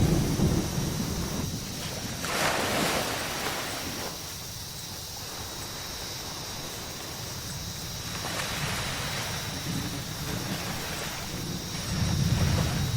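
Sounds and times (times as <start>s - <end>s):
waves breaking on beach: 0.0s - 12.9s.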